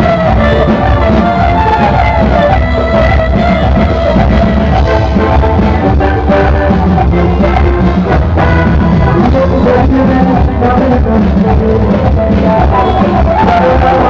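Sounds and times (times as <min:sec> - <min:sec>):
bass line: 0:00.0 - 0:14.0
live band playing: 0:00.0 - 0:14.0
steady drum beat: 0:00.0 - 0:14.0.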